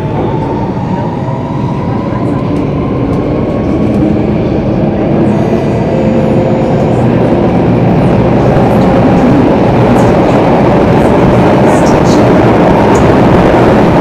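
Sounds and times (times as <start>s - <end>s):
train rumbling underground: 0.0s - 14.0s.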